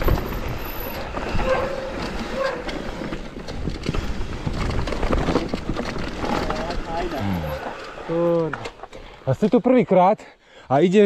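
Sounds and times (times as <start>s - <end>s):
mountain bike rattling: 0.0s - 10.2s.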